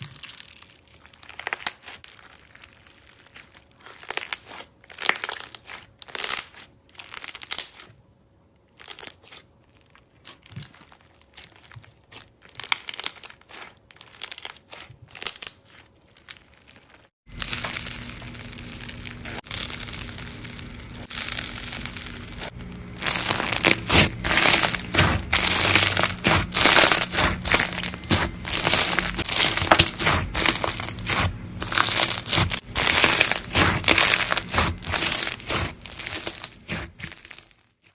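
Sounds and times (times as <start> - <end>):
crunchy slime crackling: 0.0 - 8.0, 8.7 - 37.9.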